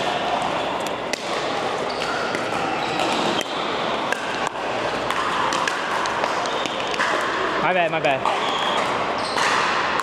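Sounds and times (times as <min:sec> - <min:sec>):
background noise: 0:00.0 - 0:10.0
paddles hitting plastic ball: 0:00.0 - 0:10.0.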